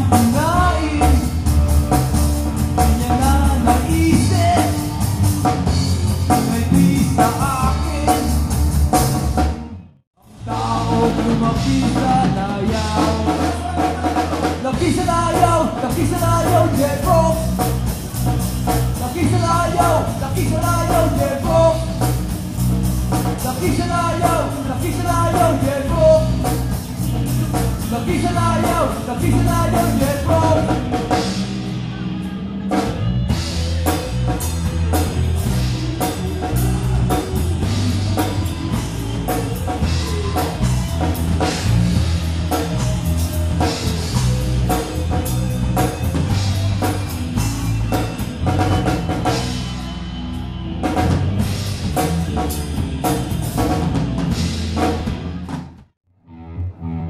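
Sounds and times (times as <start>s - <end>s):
drum kit beating: 0.0s - 55.9s
electric guitar and bass: 0.0s - 57.0s.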